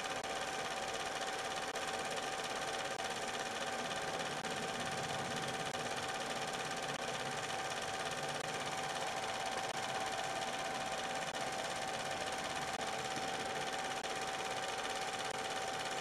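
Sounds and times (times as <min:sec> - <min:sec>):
film projector whirring: 0:00.0 - 0:16.0
projector whine: 0:00.0 - 0:16.0.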